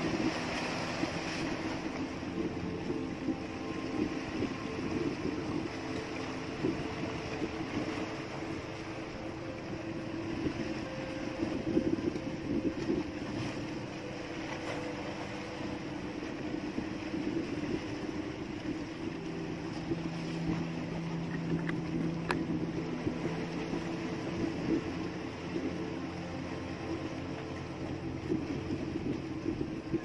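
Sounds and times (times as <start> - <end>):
boat engine rumble: 0.0 - 30.0
low hum: 0.0 - 30.0
water noise: 0.0 - 30.0
wind: 0.0 - 30.0.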